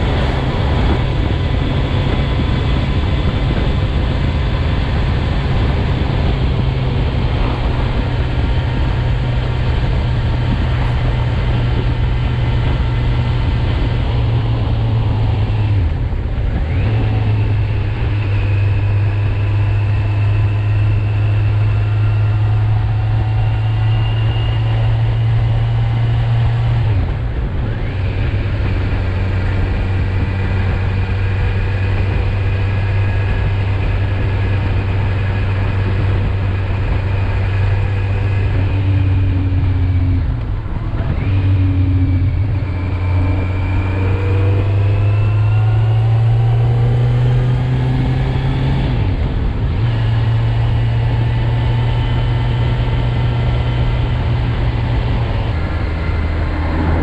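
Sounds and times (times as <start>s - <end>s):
motorcycle engine running under load: 0.0s - 57.0s.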